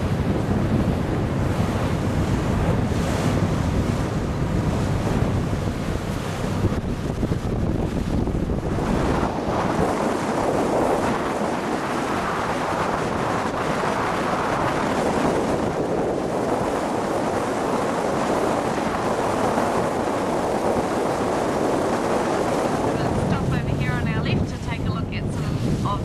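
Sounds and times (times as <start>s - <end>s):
boat engine running: 0.0s - 26.0s
water washing: 0.0s - 26.0s
wind rushing over microphone: 0.0s - 26.0s.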